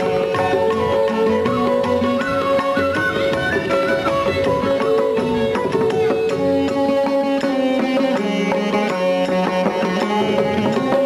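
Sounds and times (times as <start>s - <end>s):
hand drums: 0.0s - 11.0s
plucked string instrument: 0.0s - 11.0s.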